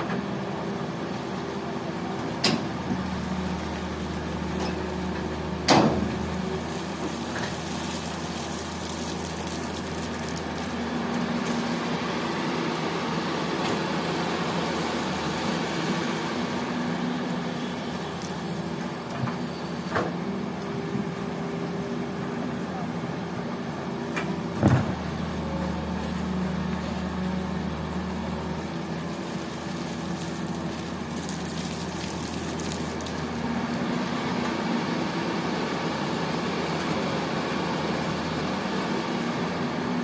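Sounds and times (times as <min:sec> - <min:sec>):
heavy diesel engines running: 0:00.0 - 0:40.0.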